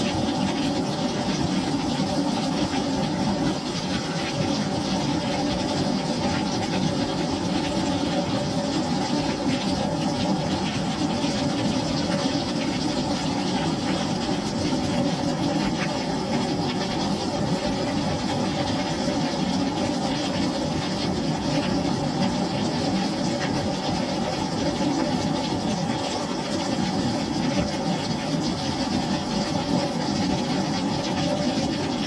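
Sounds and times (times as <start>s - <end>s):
rain on a wooden deck: 0.0s - 32.0s.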